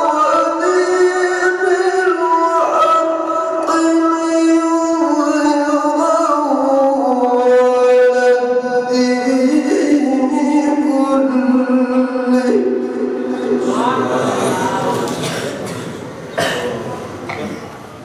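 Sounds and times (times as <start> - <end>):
man reciting melodically: 0.0 - 15.7.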